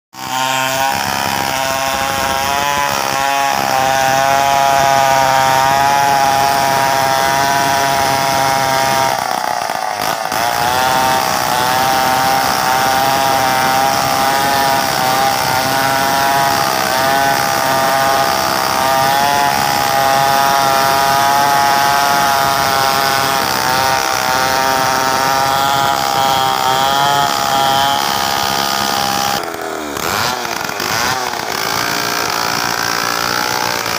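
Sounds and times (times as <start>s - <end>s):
chainsaw cutting log at high revs: 0.2s - 33.9s.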